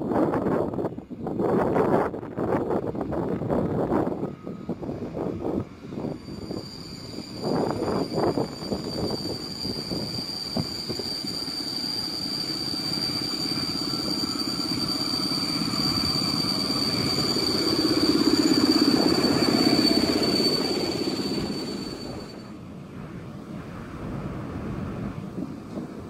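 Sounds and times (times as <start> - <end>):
high locomotive whine: 0.0 - 26.0
train rumbling: 0.0 - 26.0.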